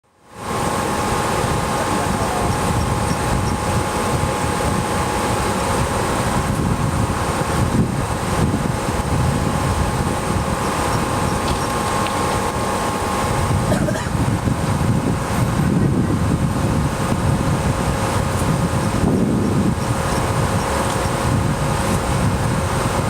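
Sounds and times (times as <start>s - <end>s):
electric train equipment hum: 0.2s - 23.0s.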